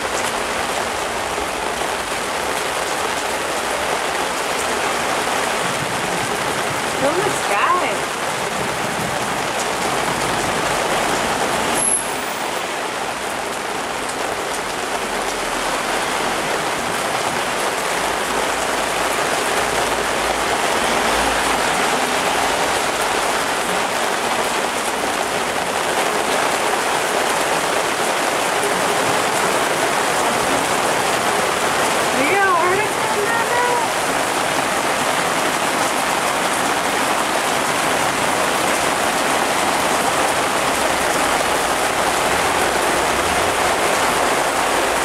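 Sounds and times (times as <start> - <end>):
heavy rain on street: 0.0 - 45.0
traffic rumble on wet street: 0.0 - 45.0.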